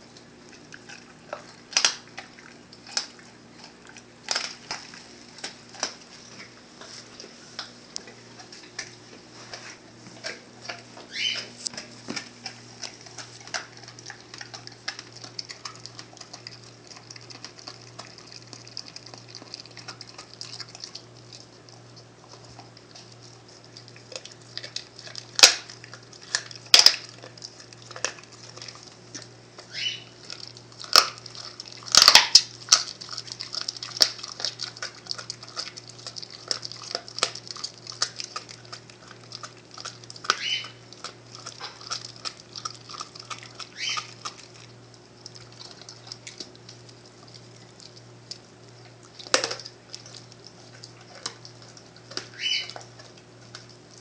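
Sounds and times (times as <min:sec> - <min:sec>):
dog chewing and tearing meat: 0:00.0 - 0:54.0.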